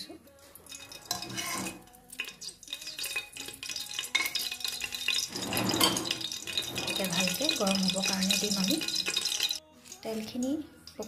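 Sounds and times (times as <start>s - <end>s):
metal spoon scraping pot: 0.6s - 11.0s.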